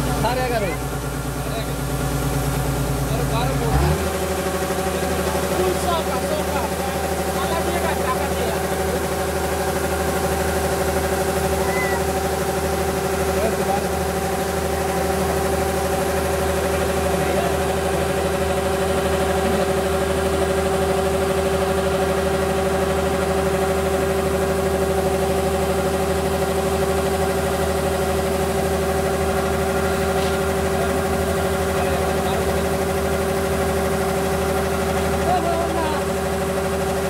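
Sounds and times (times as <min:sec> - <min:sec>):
combine harvester engine humming: 0:00.0 - 0:37.0.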